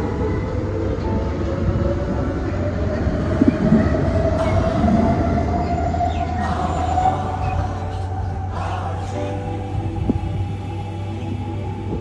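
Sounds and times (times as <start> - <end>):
train running with rumble: 0.0 - 12.0.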